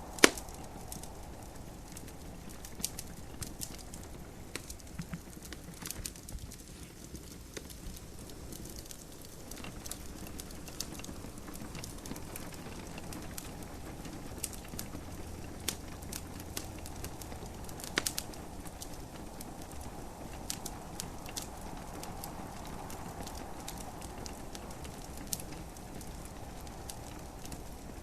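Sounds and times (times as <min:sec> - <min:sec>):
gentle rain hiss: 0:00.0 - 0:28.0
wood fire crackling: 0:00.0 - 0:28.0
sharp fire pops: 0:00.1 - 0:27.8.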